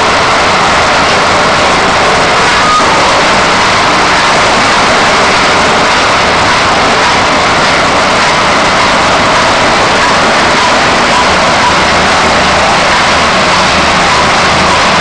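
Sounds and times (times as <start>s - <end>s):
crusher machine running: 0.0s - 15.0s.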